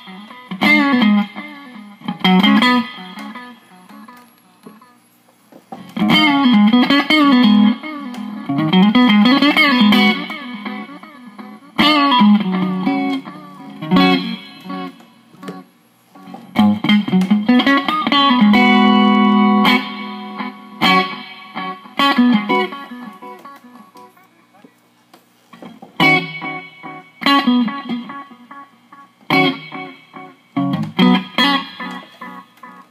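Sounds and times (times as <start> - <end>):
electric guitar with delay echoes: 0.0 - 5.1, 5.8 - 24.4, 26.0 - 32.9.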